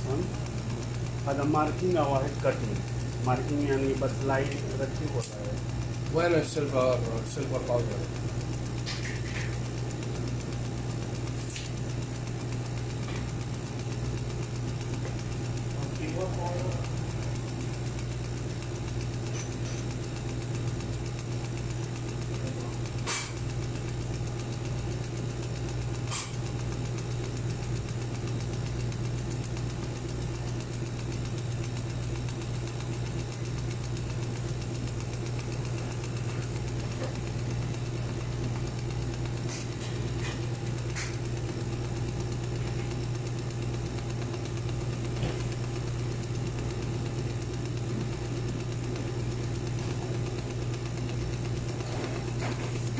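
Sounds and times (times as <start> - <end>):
wood router humming: 0.0 - 52.9
sharp clicks: 0.2 - 52.9.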